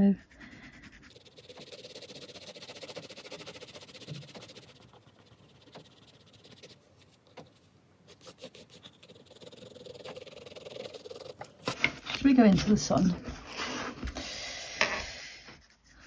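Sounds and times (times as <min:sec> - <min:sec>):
pencil scratching on paper: 0:00.0 - 0:14.0, 0:14.9 - 0:16.0.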